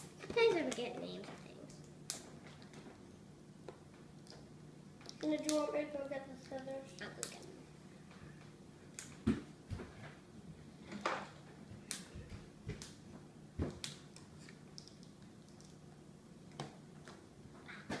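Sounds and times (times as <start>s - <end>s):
faint room noise: 0.0s - 18.0s.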